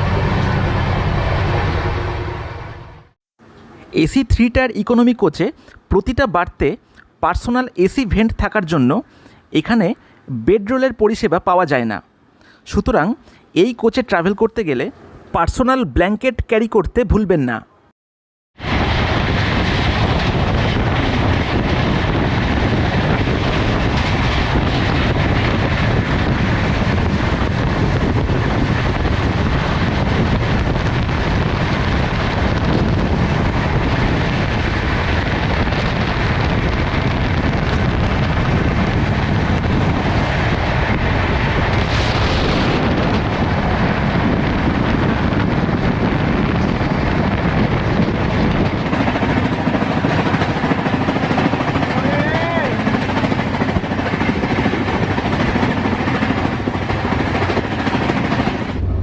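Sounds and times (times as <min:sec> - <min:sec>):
train rushing at high speed: 0:00.0 - 0:15.6, 0:18.6 - 0:59.0.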